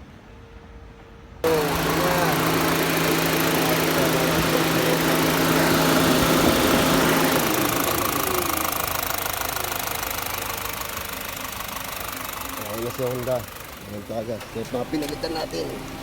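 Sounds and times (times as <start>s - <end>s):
engine idling: 1.4s - 16.0s.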